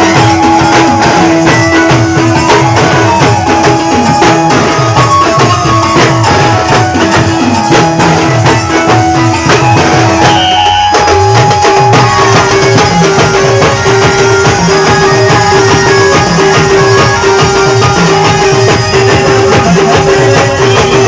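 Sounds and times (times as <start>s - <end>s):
fast dense drumming: 0.0s - 21.0s
folk band music: 0.0s - 21.0s.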